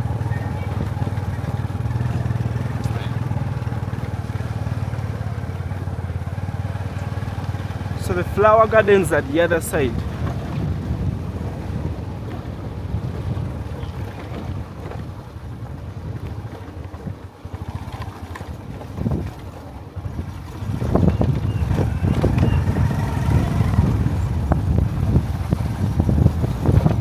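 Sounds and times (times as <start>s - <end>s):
vehicle engine and road rumble: 0.0s - 27.0s
wind buffeting microphone: 0.0s - 27.0s.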